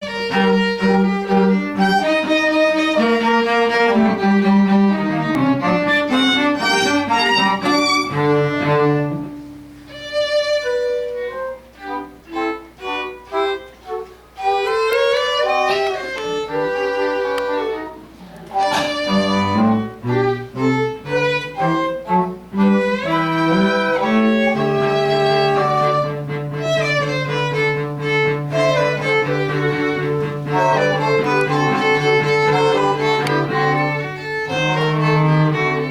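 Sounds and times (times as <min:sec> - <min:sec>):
cello: 0:00.0 - 0:35.9
violin: 0:00.0 - 0:35.9.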